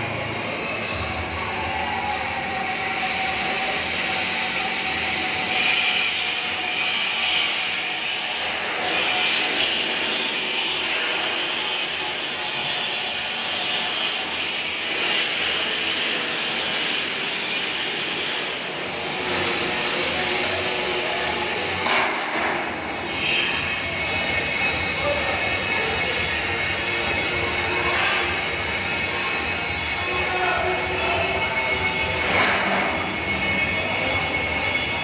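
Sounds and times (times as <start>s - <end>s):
machinery noise with hiss: 0.0s - 35.0s.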